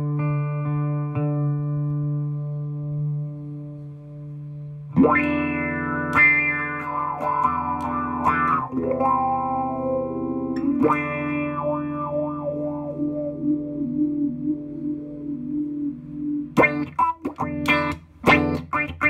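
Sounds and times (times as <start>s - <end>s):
auto-wah electric guitar chords: 0.0s - 19.0s.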